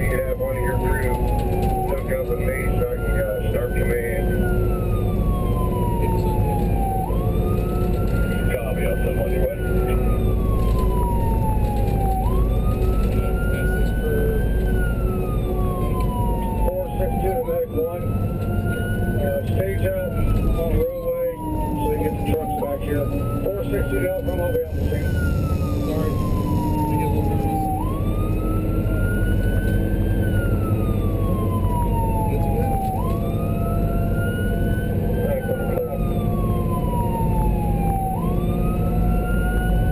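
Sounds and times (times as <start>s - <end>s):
emergency vehicle siren wailing: 0.0s - 39.9s
vehicle engine and road noise: 0.0s - 39.9s.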